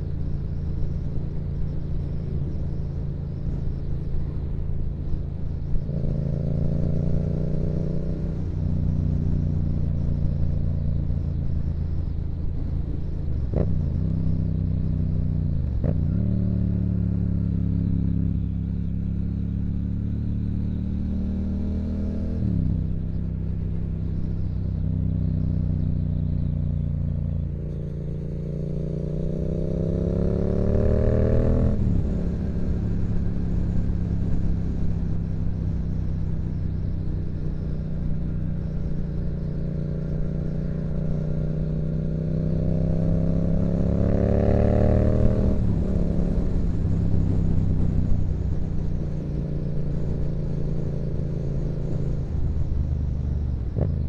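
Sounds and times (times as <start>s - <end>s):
motorcycle engine revving: 5.0s - 11.5s, 13.4s - 54.0s.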